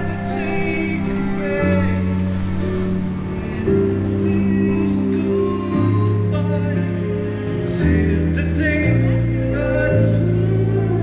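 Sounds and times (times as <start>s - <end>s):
music with deep bass line: 0.0s - 11.0s
person singing: 0.0s - 11.0s.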